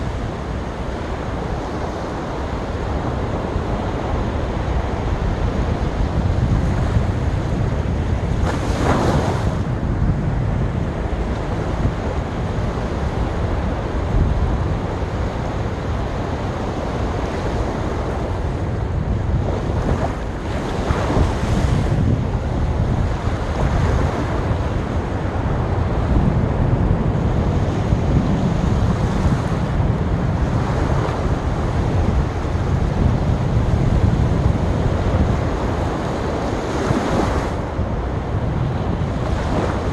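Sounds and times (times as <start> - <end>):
waves breaking on a beach: 0.0 - 39.9
wind buffeting microphone: 0.0 - 39.9.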